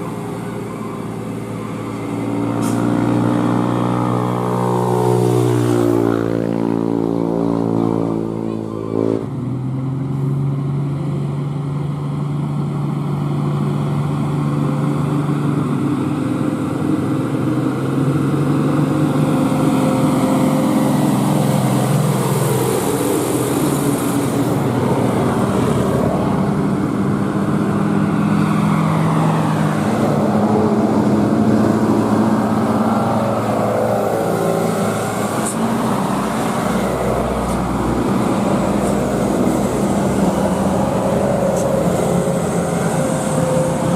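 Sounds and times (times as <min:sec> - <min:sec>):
heavy diesel truck engine: 0:00.0 - 0:43.9.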